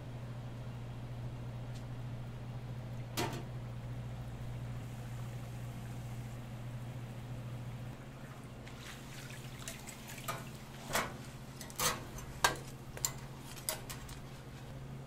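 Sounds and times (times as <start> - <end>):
oil bubbling in deep fryer: 0.0 - 15.0
steady low hum: 0.0 - 15.0.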